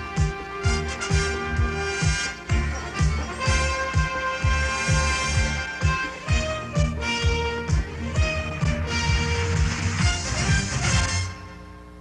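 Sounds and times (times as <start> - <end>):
steady drum beat: 0.0 - 11.3
sustained keyboard chords: 0.0 - 12.0.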